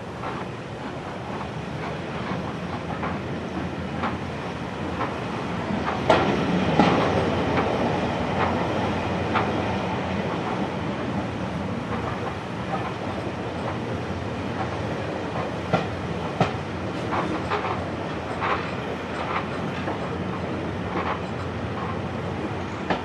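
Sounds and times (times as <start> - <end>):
railway coaches rumbling on track: 0.0 - 23.0
wheels clicking over rail joints: 0.1 - 23.0.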